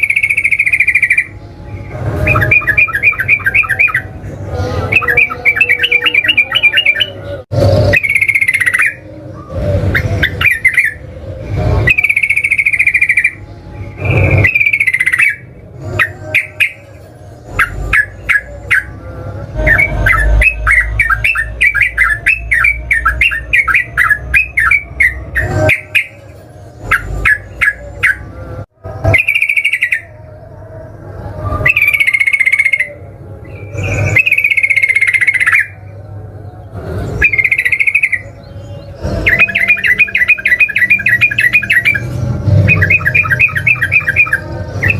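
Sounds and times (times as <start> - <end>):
bulbul singing: 0.0 - 44.9.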